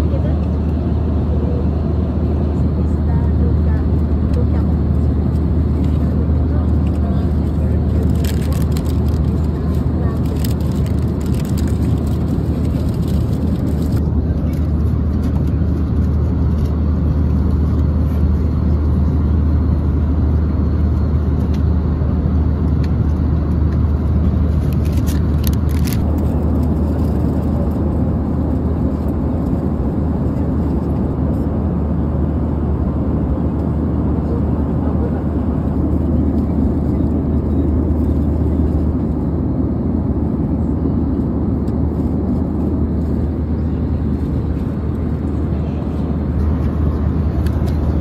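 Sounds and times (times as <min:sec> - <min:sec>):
vehicle rumble inside cabin: 0:00.0 - 0:48.0.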